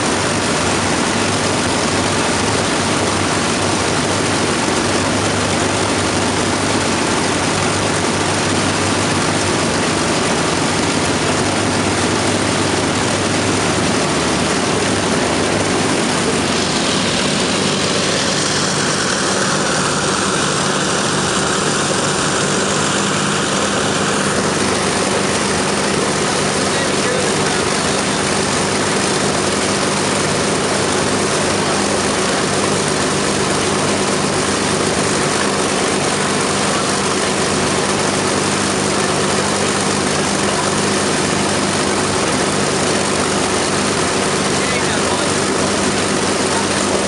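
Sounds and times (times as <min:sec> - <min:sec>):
aircraft piston engines running: 0:00.0 - 0:47.0.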